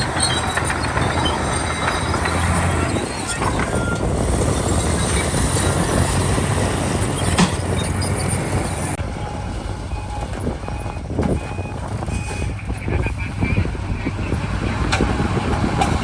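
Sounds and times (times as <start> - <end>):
heavy diesel machinery engine rumble: 0.0 - 16.0
machinery clanking: 0.0 - 16.0.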